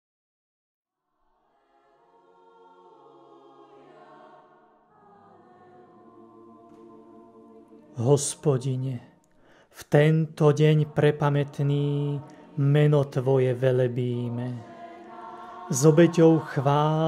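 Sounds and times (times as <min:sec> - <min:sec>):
choir singing held chords: 0:01.4 - 0:17.0.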